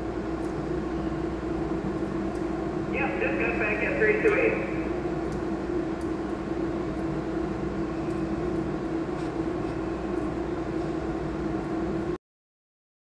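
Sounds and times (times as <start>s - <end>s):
steady mechanical hum: 0.0s - 12.2s.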